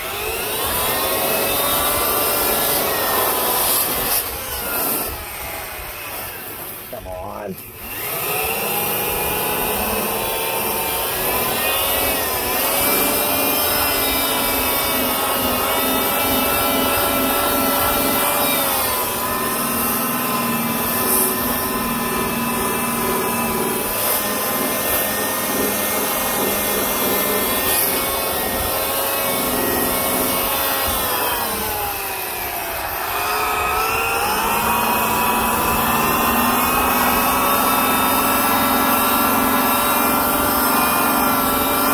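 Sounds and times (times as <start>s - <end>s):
electric rotary buffer polishing: 0.0s - 41.9s.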